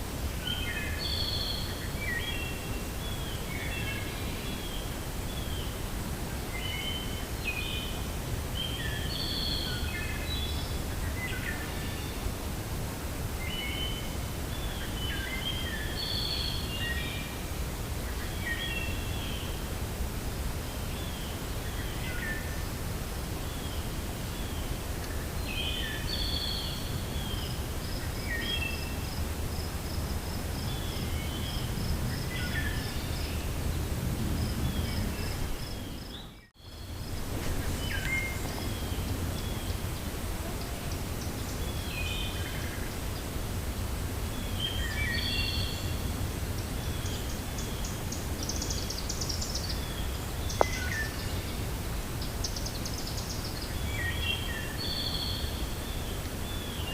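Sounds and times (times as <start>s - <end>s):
low rumble of wind: 0.0s - 56.9s.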